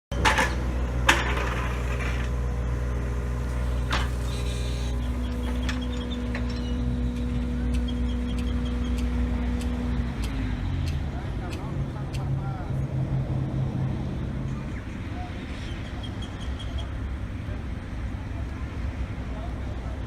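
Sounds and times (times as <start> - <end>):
excavator diesel engine running: 0.1 - 20.0.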